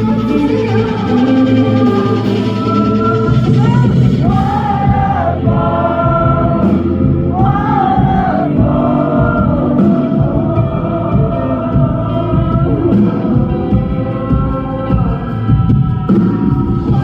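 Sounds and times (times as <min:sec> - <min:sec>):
band accompaniment: 0:00.0 - 0:17.0
woman singing pop ballad: 0:00.0 - 0:17.0.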